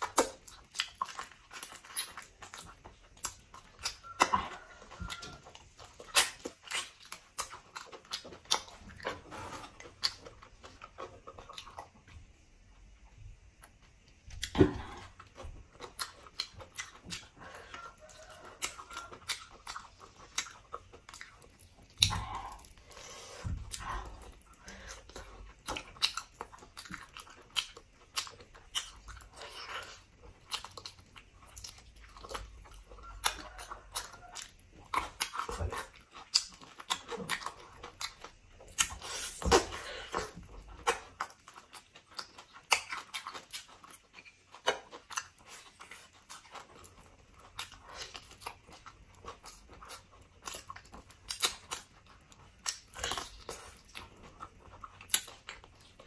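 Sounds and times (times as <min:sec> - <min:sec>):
close chewing and biting: 0:00.0 - 0:12.4, 0:13.4 - 0:56.0.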